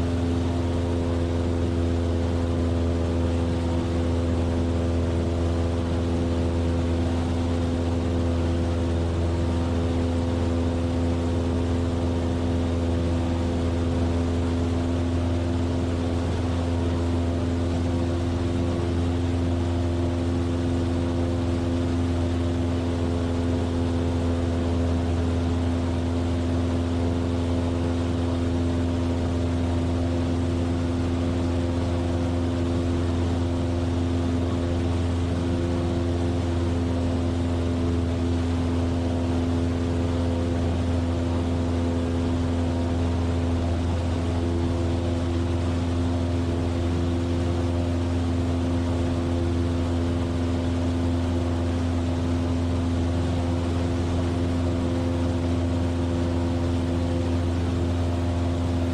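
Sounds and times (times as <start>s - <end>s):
aircraft engine and propeller drone: 0.0s - 58.9s.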